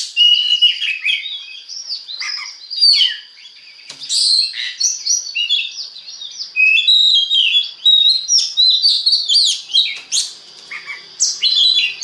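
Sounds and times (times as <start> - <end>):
bird singing whistles and chirps: 0.0 - 12.0.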